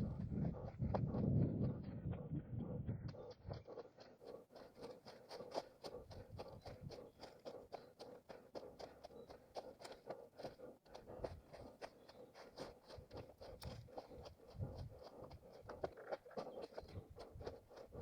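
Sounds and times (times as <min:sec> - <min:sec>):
running footsteps on forest ground: 0:00.0 - 0:18.0.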